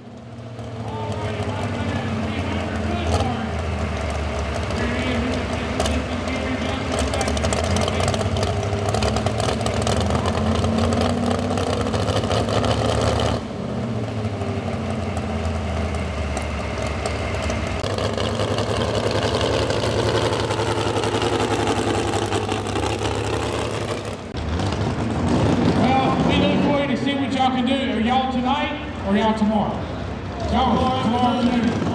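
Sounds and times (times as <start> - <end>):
truck engine running loud: 0.0 - 31.9.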